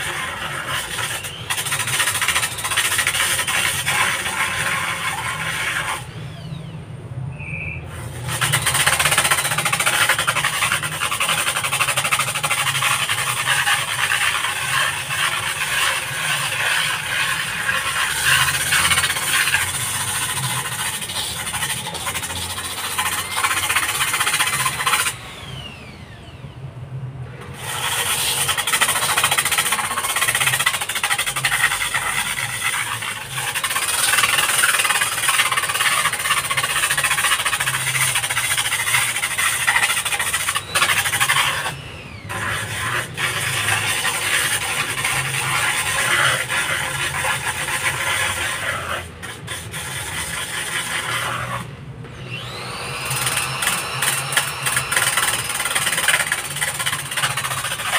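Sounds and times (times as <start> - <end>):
drill disc grinding on wall: 0.0 - 6.8, 7.9 - 26.5, 27.4 - 57.9.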